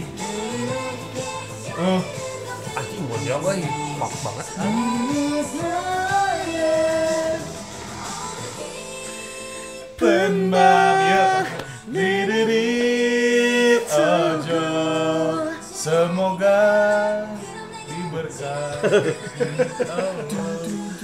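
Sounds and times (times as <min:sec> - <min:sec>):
pop song backing track: 0:00.0 - 0:21.0
women singing long notes: 0:00.0 - 0:21.0.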